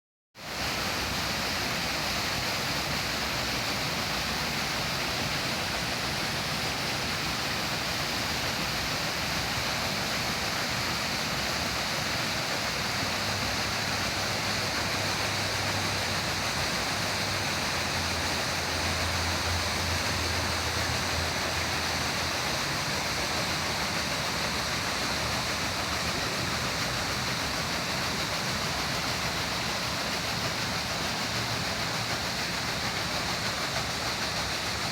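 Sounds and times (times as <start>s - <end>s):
rush of falling water: 0.4s - 34.9s.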